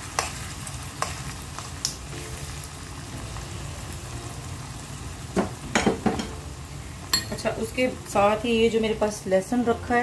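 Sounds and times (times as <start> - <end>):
onion and tomato frying in a wok: 0.0 - 10.0.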